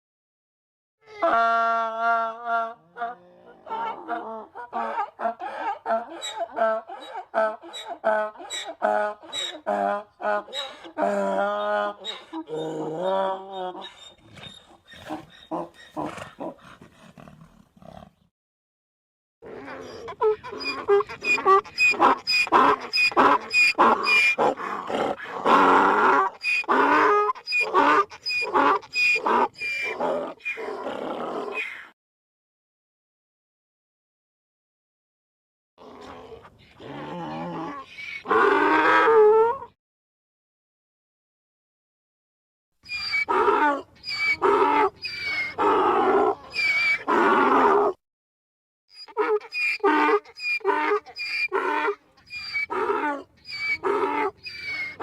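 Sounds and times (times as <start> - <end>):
cartoon donkey grunts and calls: 1.0 - 18.2, 19.4 - 31.9, 35.8 - 39.8, 42.9 - 48.0, 49.0 - 55.0.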